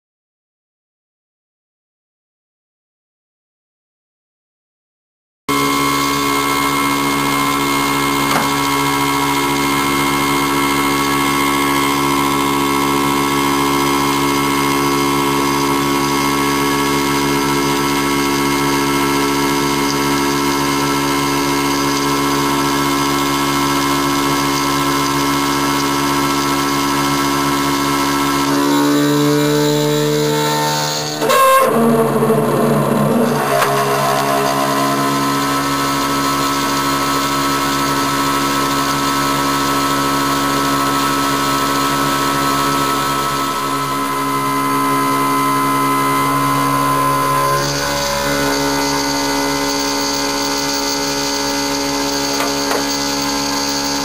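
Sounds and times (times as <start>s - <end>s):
milling machine whine: 5.5s - 54.0s.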